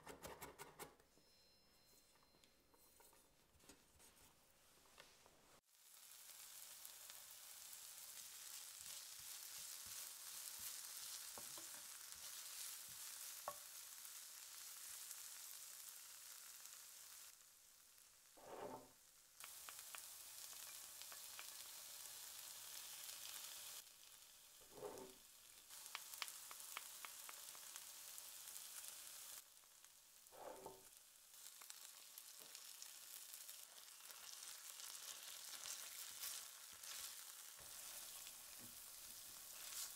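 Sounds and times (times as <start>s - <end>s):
onions sizzling in oil: 5.6s - 39.9s.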